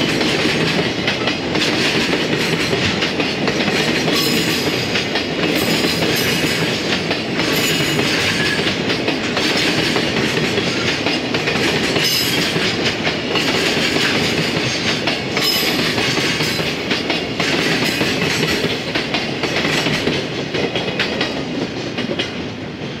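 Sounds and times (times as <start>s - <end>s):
freight train wheels clattering: 0.0s - 23.0s
train rumble: 0.0s - 23.0s.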